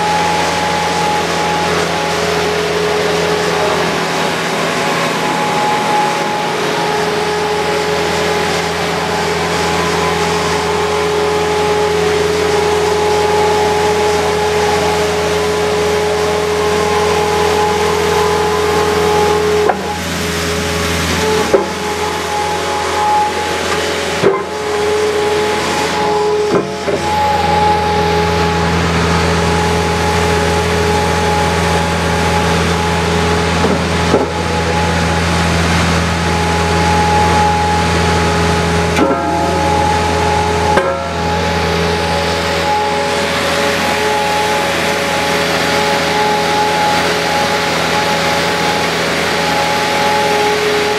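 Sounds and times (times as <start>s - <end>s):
diesel engine running: 0.0s - 50.9s
hydraulic whine: 0.0s - 50.9s.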